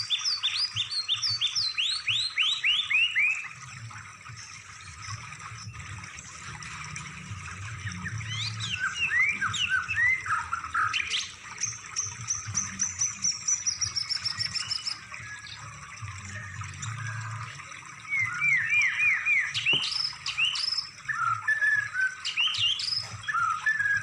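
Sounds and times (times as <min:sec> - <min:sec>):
songbird singing: 0:00.0 - 0:03.6, 0:04.2 - 0:24.0
low steady hum: 0:03.4 - 0:24.0.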